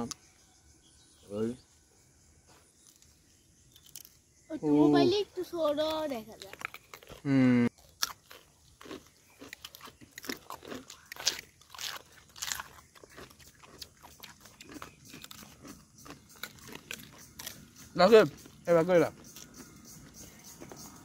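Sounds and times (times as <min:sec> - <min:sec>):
crunchy chewing: 0:02.4 - 0:04.4, 0:05.6 - 0:21.0.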